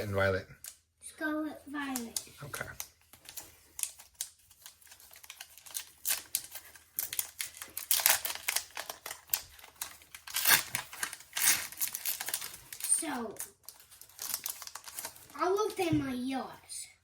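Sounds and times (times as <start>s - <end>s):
foil wrapper crinkling and tearing: 1.9s - 15.8s.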